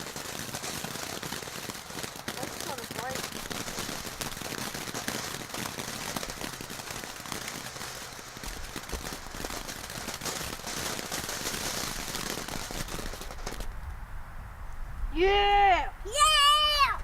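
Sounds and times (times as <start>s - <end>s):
firework crackling and hissing: 0.0s - 13.9s.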